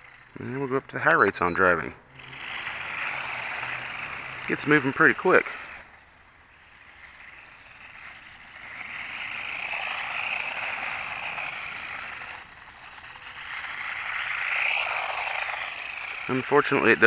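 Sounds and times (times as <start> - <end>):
small electric motors whirring: 0.0 - 17.0.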